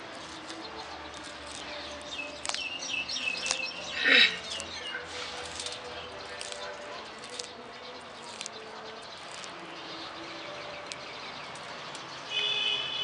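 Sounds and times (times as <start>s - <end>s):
tortoise chewing leaf: 0.0s - 12.6s.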